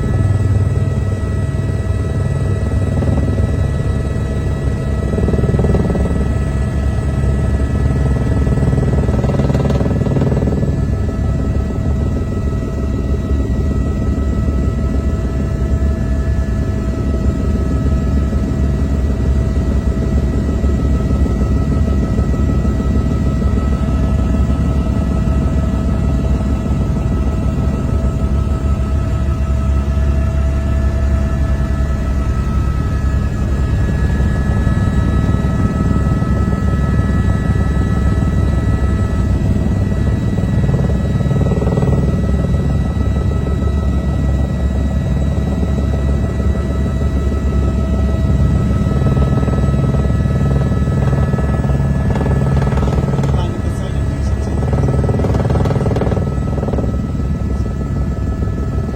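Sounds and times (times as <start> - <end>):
helicopter rotor drone: 0.0 - 58.9
turbine whine: 0.0 - 58.9.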